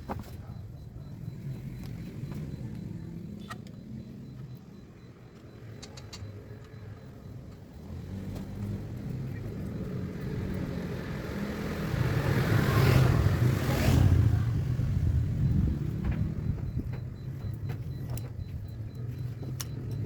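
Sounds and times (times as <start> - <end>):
car engine running: 0.0 - 12.4, 14.2 - 20.0.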